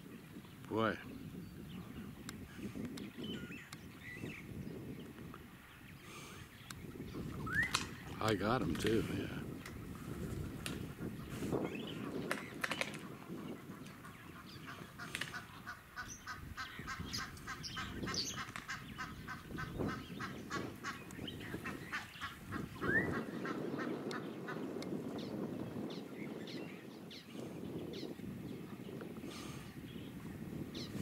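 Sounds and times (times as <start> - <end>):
birds calling rapidly: 0.0 - 31.0.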